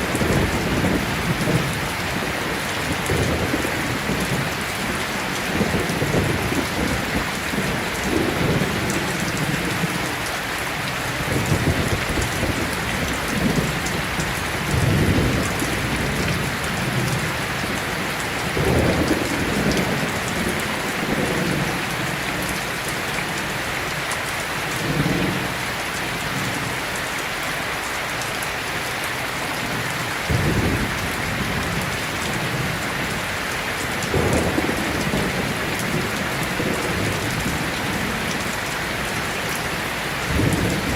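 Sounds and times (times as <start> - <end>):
low thunder rumbles: 0.0 - 10.1, 11.1 - 22.6, 29.7 - 40.9
heavy rain falling: 0.0 - 40.9.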